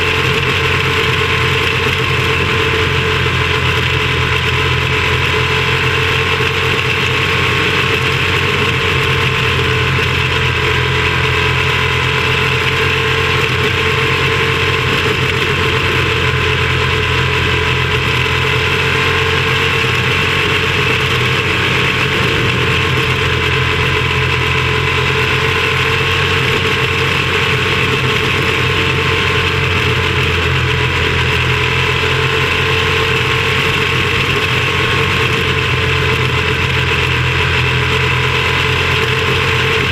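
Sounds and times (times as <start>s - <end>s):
small race car engine running: 0.0s - 39.9s.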